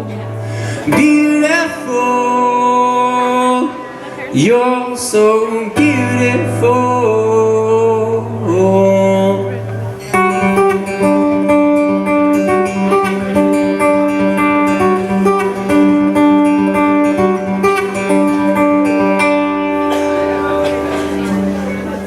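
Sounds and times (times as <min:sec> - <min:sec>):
guitar picking a melody: 0:00.0 - 0:22.0
live band playing: 0:00.0 - 0:22.0.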